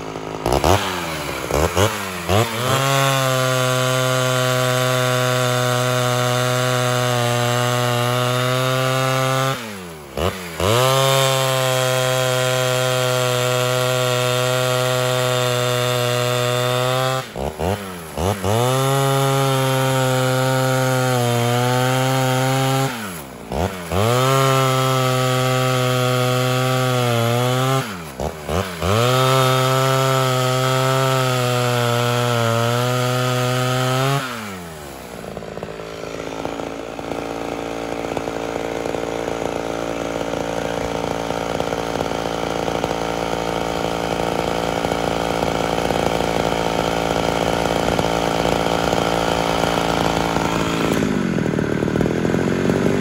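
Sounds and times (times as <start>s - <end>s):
chainsaw cutting logs: 0.0s - 53.0s
chainsaw idling: 0.0s - 53.0s.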